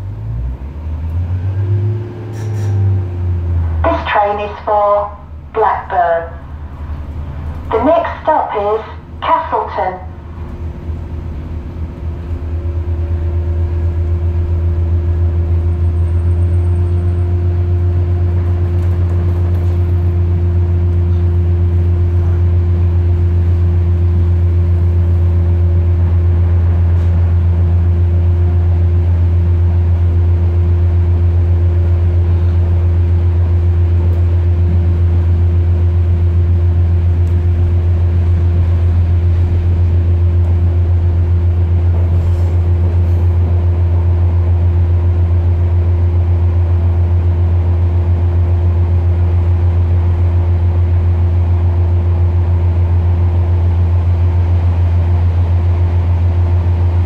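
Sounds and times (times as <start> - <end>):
train diesel engine drone: 0.0 - 57.0.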